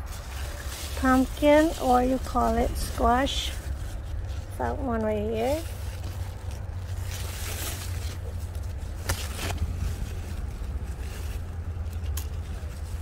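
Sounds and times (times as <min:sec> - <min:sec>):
leaves brushing microphone: 0:00.0 - 0:13.0
low steady rumble: 0:00.0 - 0:13.0.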